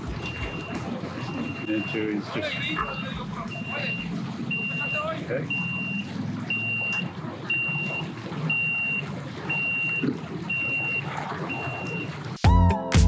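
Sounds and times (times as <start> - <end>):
reversing alarm beeping: 0.0 - 12.2.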